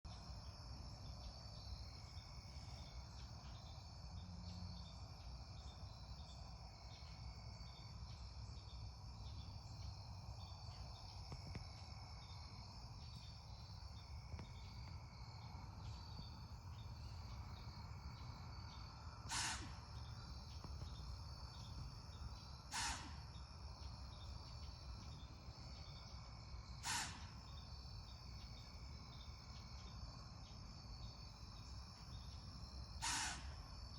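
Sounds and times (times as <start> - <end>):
crickets and insects chirping: 0.1 - 33.9.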